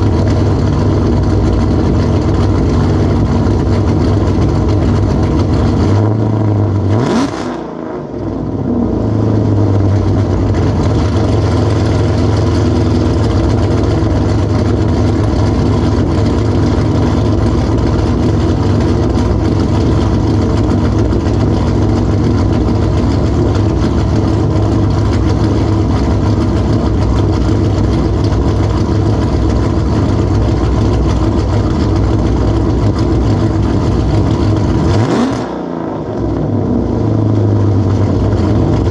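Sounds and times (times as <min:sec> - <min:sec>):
car engine idling loudly: 0:00.0 - 0:38.9.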